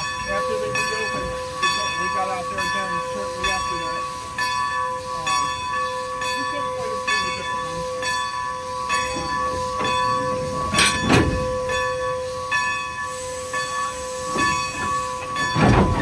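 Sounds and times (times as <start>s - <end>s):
hissing steam: 0.0s - 16.0s
steam locomotive whine: 0.0s - 16.0s.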